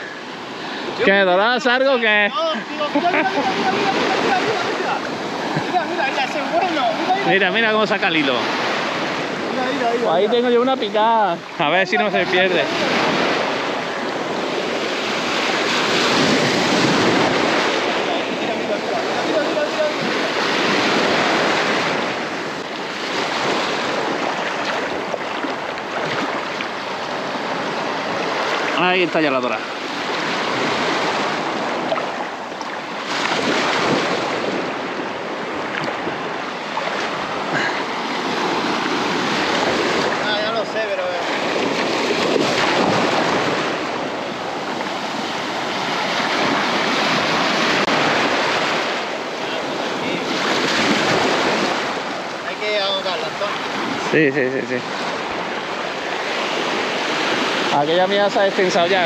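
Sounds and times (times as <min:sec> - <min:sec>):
surf breaking on beach: 0:00.0 - 0:59.0
wind buffeting microphone: 0:02.0 - 0:29.0, 0:29.6 - 0:52.6.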